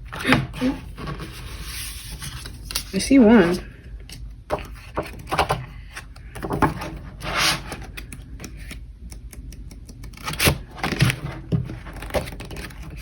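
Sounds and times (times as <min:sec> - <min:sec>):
paper and card being sorted: 0:00.0 - 0:13.0.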